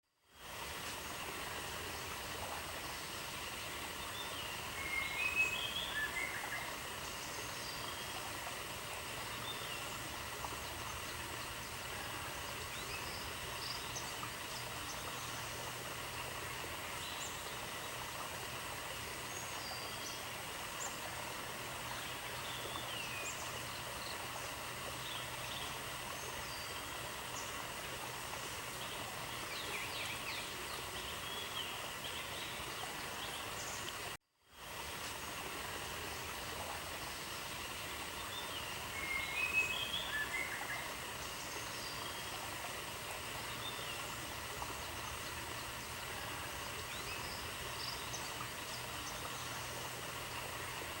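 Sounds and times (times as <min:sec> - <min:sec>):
steady outdoor hiss: 0:00.0 - 0:51.0.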